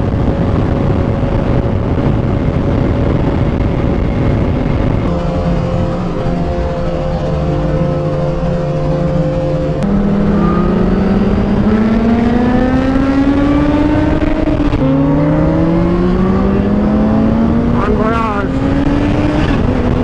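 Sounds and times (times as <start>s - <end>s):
motorcycle engine pulling hard: 0.0s - 20.0s
wind rush: 0.0s - 20.0s.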